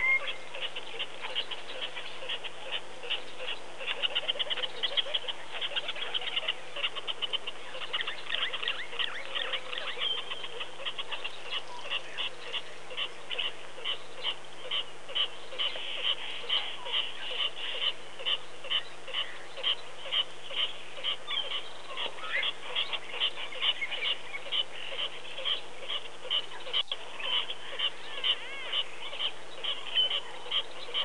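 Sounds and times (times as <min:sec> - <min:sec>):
frogs calling: 0:00.0 - 0:31.0.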